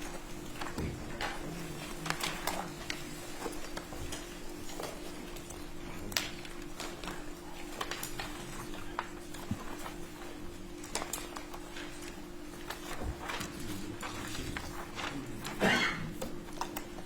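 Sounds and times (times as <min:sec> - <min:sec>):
low room tone hum: 0:00.0 - 0:17.0.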